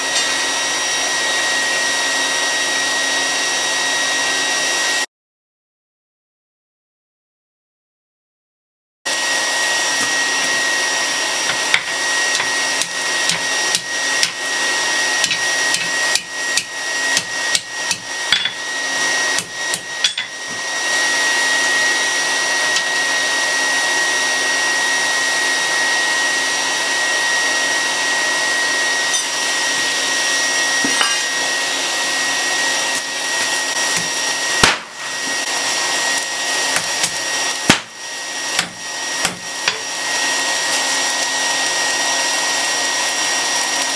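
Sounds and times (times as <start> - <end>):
forge blower roar: 0.0 - 5.1, 9.1 - 43.9.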